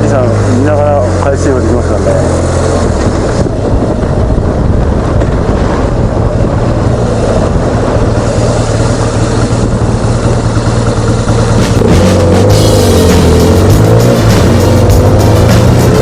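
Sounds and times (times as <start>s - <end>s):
motorcycle engine running: 0.0s - 16.0s
wind rushing past microphone: 0.0s - 16.0s.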